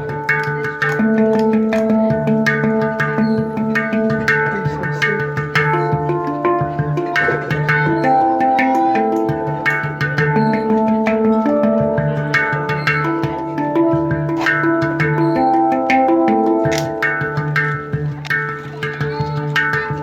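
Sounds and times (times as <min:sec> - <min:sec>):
background music with plucked notes: 0:00.0 - 0:20.0.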